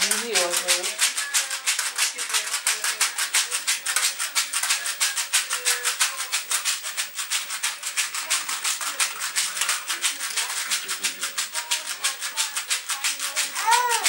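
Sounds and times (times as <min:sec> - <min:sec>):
baby rattles shaking: 0:00.0 - 0:14.0.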